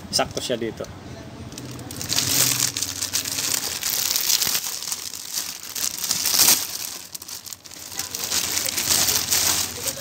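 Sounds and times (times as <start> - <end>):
plastic bag crinkling: 1.5 - 10.0.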